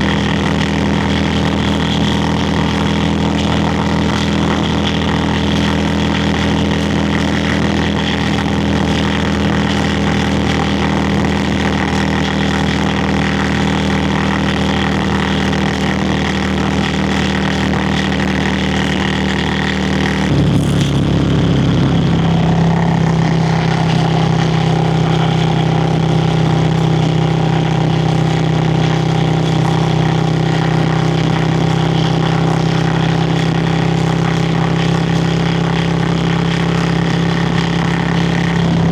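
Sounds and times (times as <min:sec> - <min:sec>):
motorcycle exhaust running: 0:00.0 - 0:38.9.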